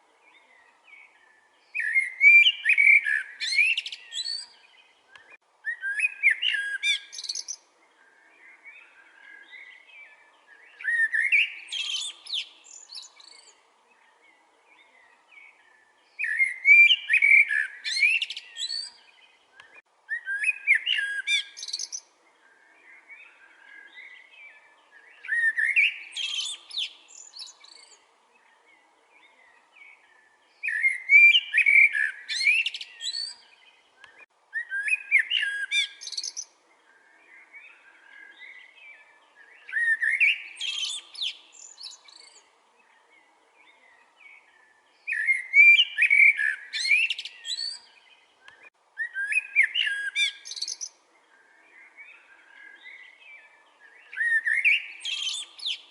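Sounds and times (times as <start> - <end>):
other birds chirping: 0.0 - 55.9
songbird whistled song: 0.2 - 55.9.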